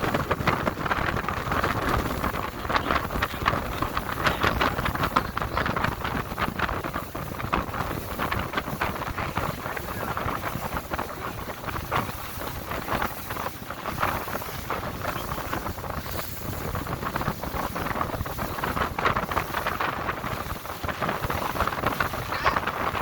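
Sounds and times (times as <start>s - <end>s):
boat engine: 0.0s - 23.0s
water rushing: 0.0s - 23.0s
wind buffeting microphone: 0.0s - 23.0s.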